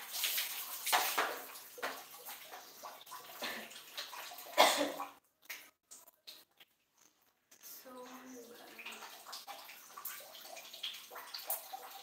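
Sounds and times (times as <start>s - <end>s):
water splashing on tiled floor: 0.0s - 12.0s.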